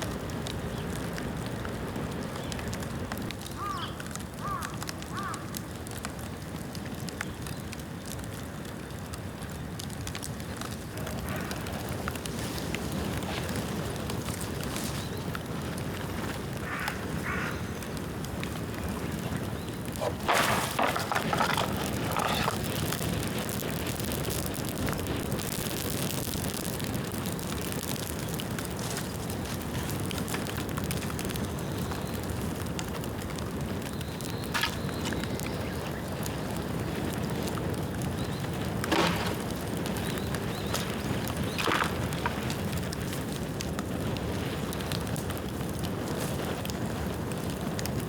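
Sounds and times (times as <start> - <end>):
bonfire crackling: 0.0 - 48.0
loud pops from fire: 0.0 - 48.0.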